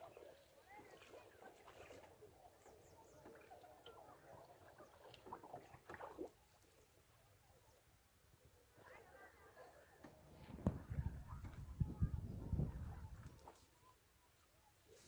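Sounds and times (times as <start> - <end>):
faint chatter of birds: 0.0 - 15.0.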